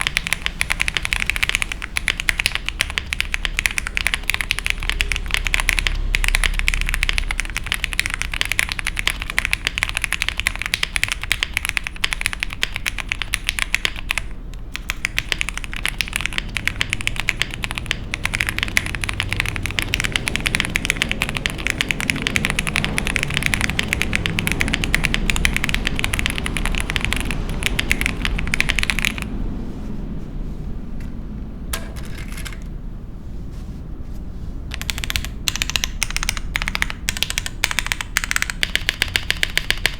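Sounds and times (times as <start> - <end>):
mechanical keyboard typing: 0.0 - 29.3, 31.8 - 32.7, 34.7 - 39.9.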